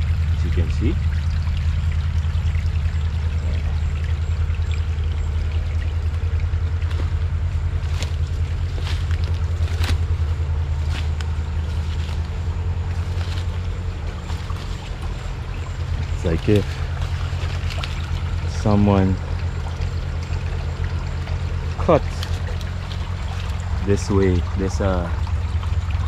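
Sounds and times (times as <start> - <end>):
steady low rumble: 0.0 - 26.0
stream trickling over rock: 0.0 - 26.0.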